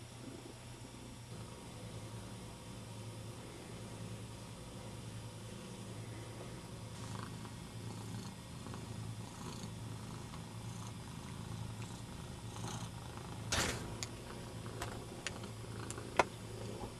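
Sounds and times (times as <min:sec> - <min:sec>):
cat purring: 0:01.3 - 0:16.9.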